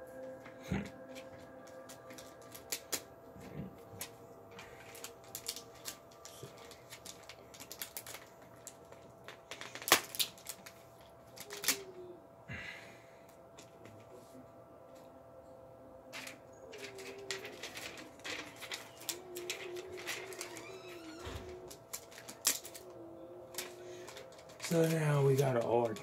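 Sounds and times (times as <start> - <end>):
plastic clicks and crinkles: 0.2 - 12.0, 16.1 - 26.0.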